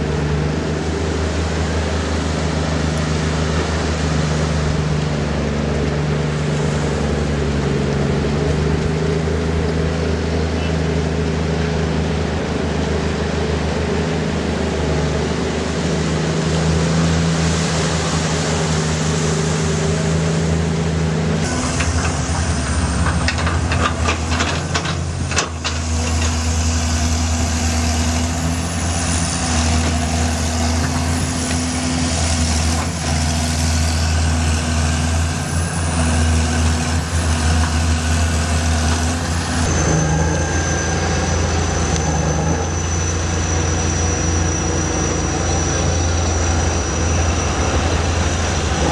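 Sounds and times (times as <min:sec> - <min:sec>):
diesel bulldozer engine humming: 0:00.0 - 0:48.9.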